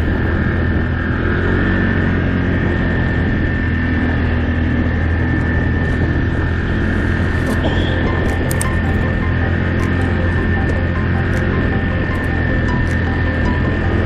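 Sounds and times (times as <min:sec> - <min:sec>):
atv engine running: 0:00.0 - 0:14.0
constant high whine: 0:00.0 - 0:14.0.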